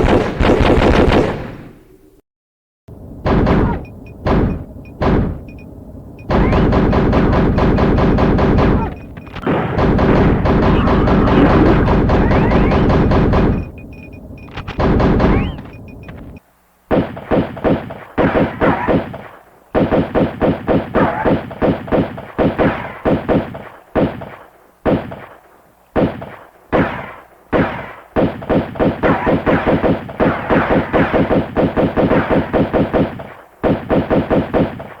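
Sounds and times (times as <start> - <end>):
gunshots with echo: 0.0 - 1.8, 3.2 - 5.4, 6.3 - 13.7, 14.6 - 15.6, 16.9 - 25.4, 26.0 - 35.0.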